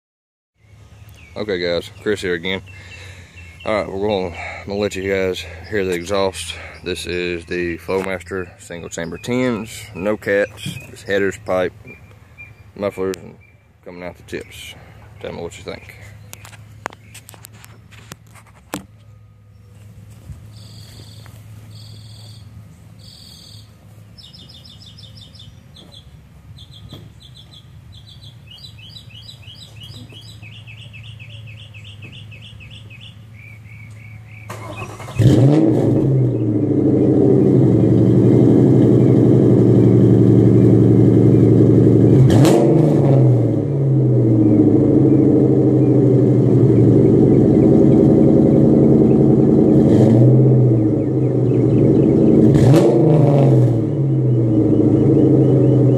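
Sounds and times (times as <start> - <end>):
car engine revving and idling: 0.6 - 24.2, 33.3 - 55.9
birds chirping: 0.6 - 55.9.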